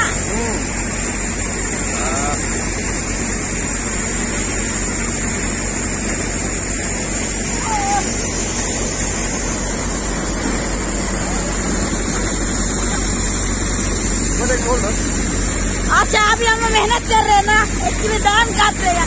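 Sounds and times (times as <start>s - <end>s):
thresher machine droning: 0.0s - 19.0s.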